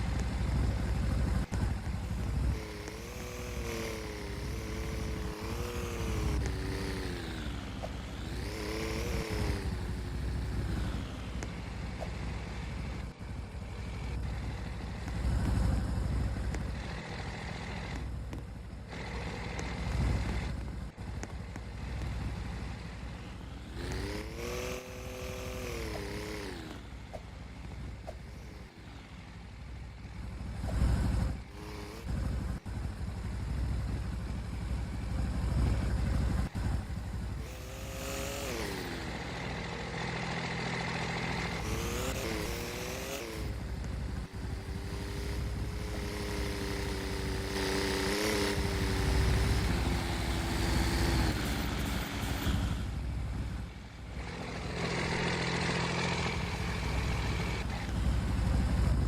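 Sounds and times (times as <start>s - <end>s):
vehicle engine revving: 0.0s - 29.4s, 30.0s - 59.0s.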